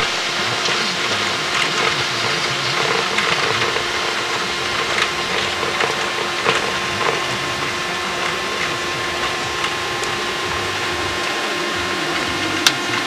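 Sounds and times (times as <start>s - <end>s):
aircraft engine noise: 0.0s - 13.0s
intercom hiss with hum: 0.0s - 13.0s
light crackle: 0.0s - 13.0s.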